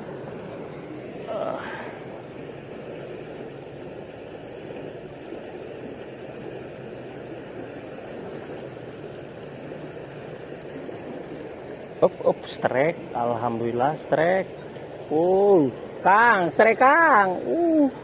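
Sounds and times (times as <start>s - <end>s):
fast-flowing river rushing: 0.0s - 18.0s.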